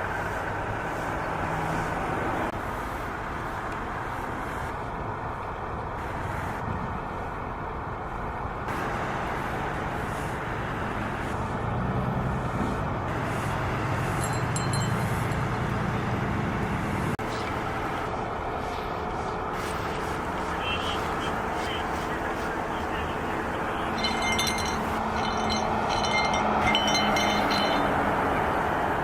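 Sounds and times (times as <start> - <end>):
heavy vehicle engine: 0.0 - 29.0
hiss of passing vehicles: 0.0 - 29.0.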